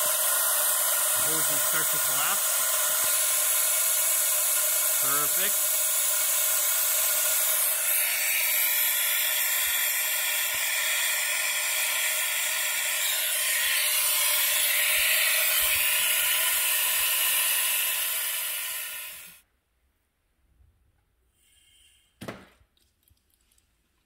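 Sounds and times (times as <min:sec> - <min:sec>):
compressed air hissing: 0:00.0 - 0:19.4.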